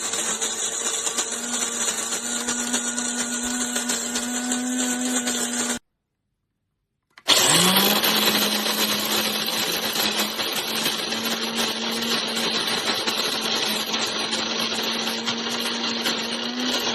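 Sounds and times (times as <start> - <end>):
coffee grinder motor whirring: 0.0 - 5.8, 7.2 - 16.9.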